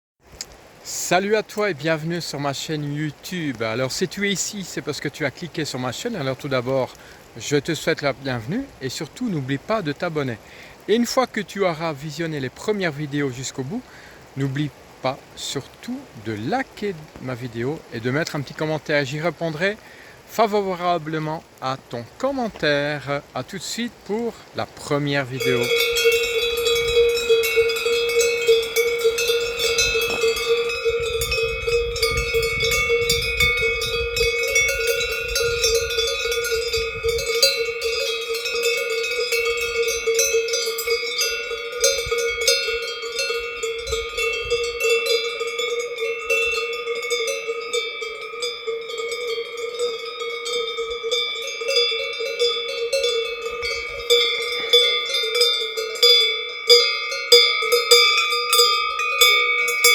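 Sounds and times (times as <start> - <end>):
cowbells clanking: 1.2 - 10.3, 10.9 - 13.8, 15.4 - 21.3, 22.2 - 59.9.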